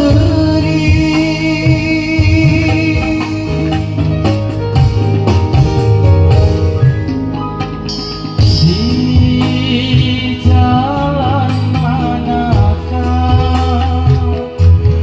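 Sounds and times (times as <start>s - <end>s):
instrumental band music: 0.0s - 15.0s
steady drum rhythm: 0.0s - 15.0s.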